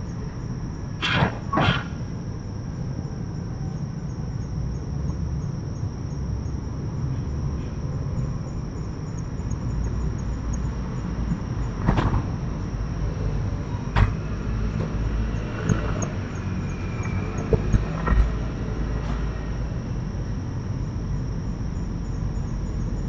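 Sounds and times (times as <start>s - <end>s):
insects chirping: 0.0s - 23.0s
steady low rumble: 0.0s - 23.0s.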